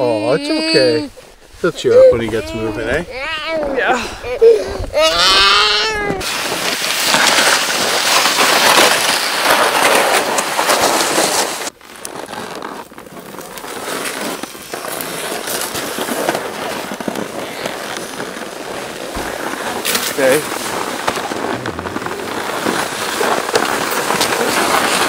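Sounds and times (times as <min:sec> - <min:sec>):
toboggan hauled over snow: 0:00.0 - 0:25.0
snow crunching underfoot: 0:04.5 - 0:25.0.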